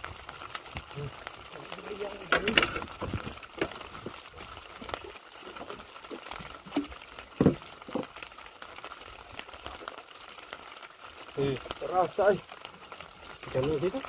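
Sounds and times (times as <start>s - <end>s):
drizzle pattering on water and boat: 0.0s - 14.0s.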